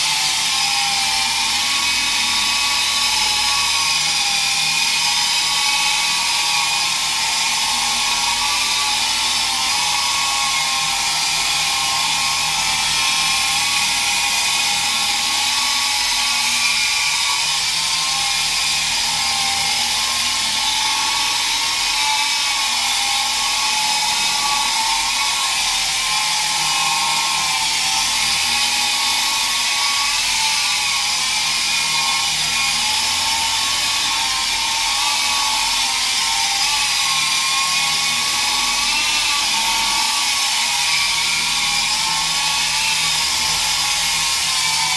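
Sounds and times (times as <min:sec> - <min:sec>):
toy helicopter motor whining: 0:00.0 - 0:44.9.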